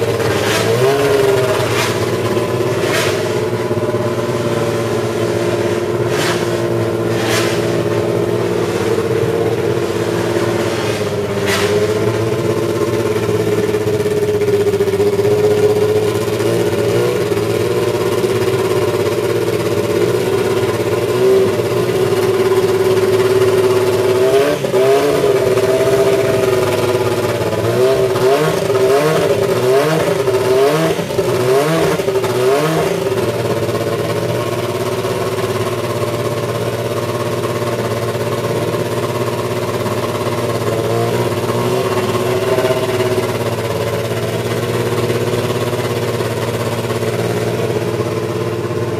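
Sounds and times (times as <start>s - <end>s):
engine throttle blips: 0.0s - 48.9s
racing engine idling: 0.0s - 48.9s.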